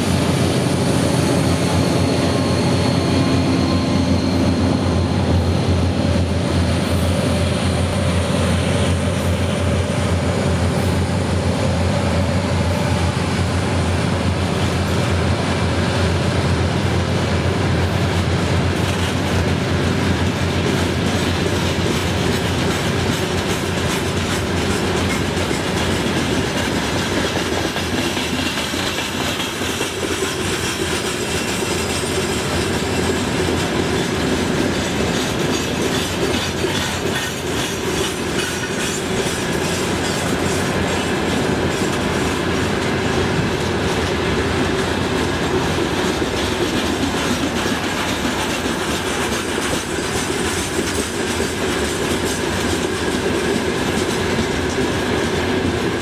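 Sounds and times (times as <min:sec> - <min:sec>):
train rumble: 0:00.0 - 0:56.0
train wheels clattering over rail joints: 0:00.0 - 0:56.0.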